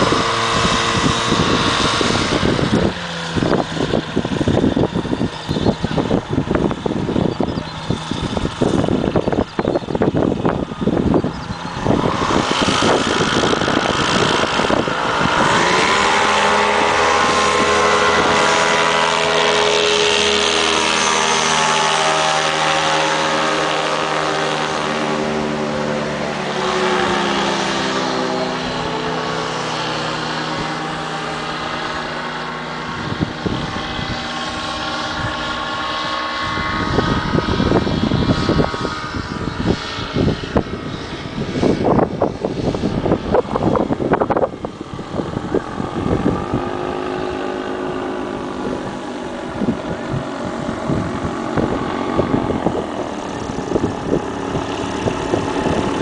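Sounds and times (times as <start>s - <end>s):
propeller aircraft engine passing: 0.0s - 56.0s
wind buffeting microphone: 0.0s - 56.0s.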